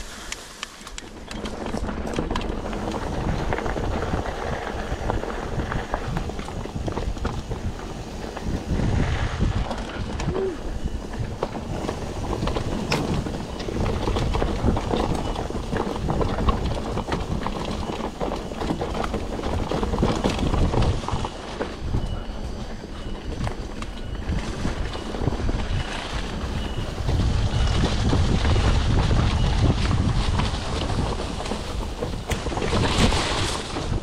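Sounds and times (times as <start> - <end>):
bike rattling over dirt trail: 0.0 - 34.0
wind buffeting microphone: 0.7 - 34.0.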